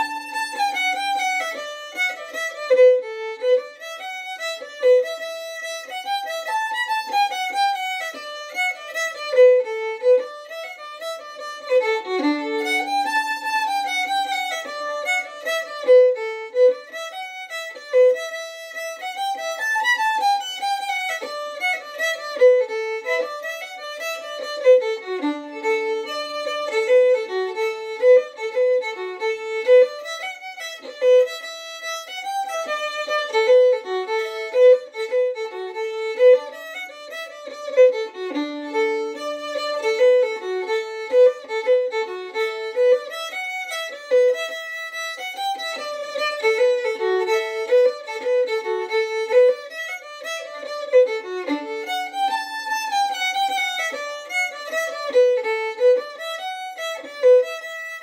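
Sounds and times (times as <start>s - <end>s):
solo fiddle playing a reel: 0.0s - 58.0s.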